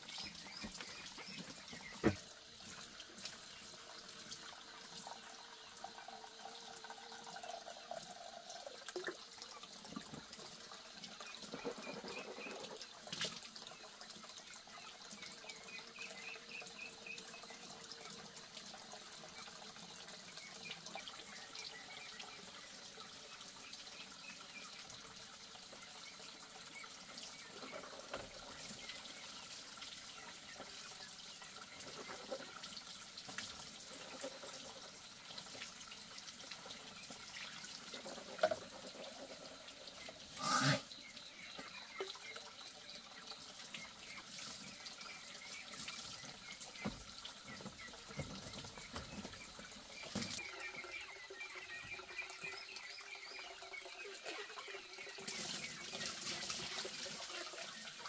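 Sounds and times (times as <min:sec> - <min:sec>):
water running into plastic basin: 0:00.0 - 0:58.0.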